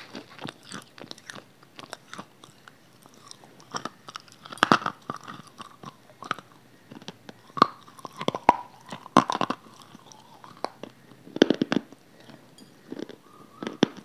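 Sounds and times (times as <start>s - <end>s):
person crunching and chewing: 0.0s - 14.0s.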